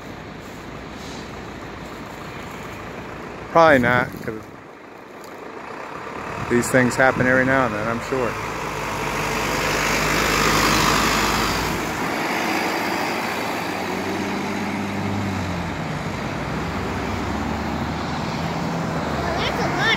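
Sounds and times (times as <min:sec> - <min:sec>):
car passing: 0:00.0 - 0:19.9
dump truck driving past: 0:00.0 - 0:19.9
tyre and road noise: 0:00.0 - 0:19.9.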